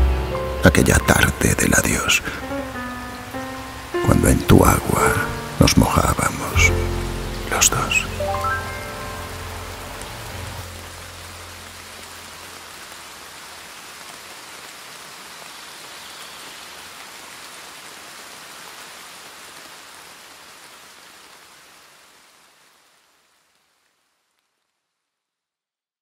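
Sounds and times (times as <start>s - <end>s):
rain falling on leaves: 0.0s - 25.5s.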